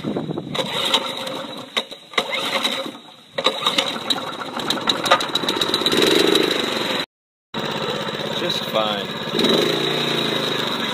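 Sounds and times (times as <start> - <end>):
lawn mower engine running: 0.0 - 7.0, 7.6 - 10.9.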